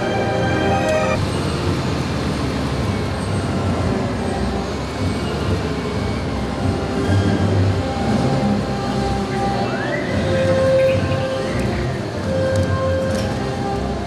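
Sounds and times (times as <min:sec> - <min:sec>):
orchestral music: 0:00.0 - 0:14.0
outdoor noise: 0:00.0 - 0:14.0
tow tractor mechanical rumble: 0:00.0 - 0:14.0.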